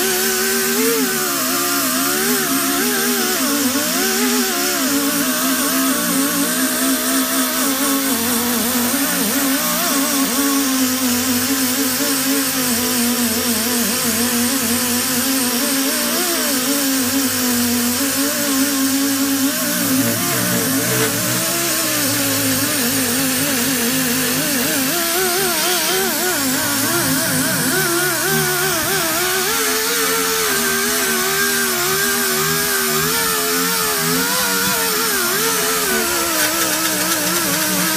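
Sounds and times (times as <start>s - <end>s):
air grinder whining on metal: 0.0s - 37.9s.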